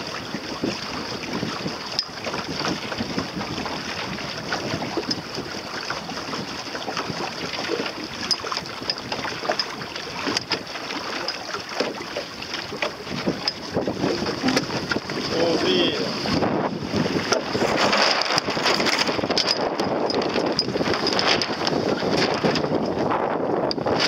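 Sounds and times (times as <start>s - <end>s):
water splashing against hull: 0.0s - 24.0s
wind buffeting microphone: 0.0s - 24.0s.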